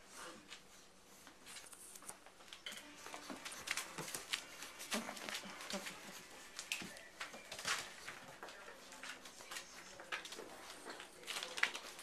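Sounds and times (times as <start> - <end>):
puppies scrabbling on floor: 1.2 - 12.0.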